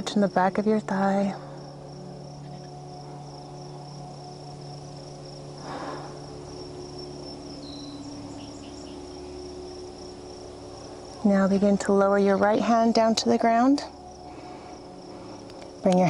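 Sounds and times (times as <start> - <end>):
insects trilling: 0.0 - 16.0
soft rush of noise: 0.0 - 16.0.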